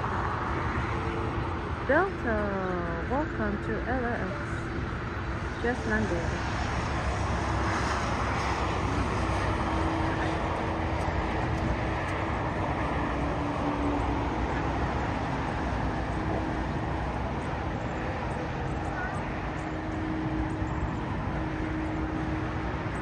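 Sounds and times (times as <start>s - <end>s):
high-pitched engine whine: 0.0s - 23.0s
jet engines rushing: 0.0s - 23.0s.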